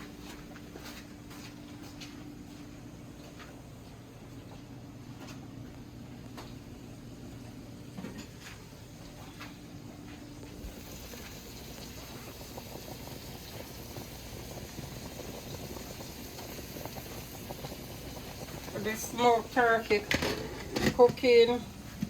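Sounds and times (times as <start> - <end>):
pot boiling and bubbling: 0.0 - 22.0.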